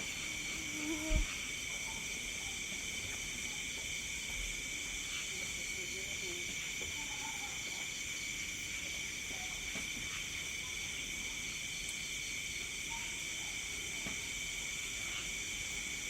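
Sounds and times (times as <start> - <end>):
crickets and insects trilling: 0.0 - 16.0.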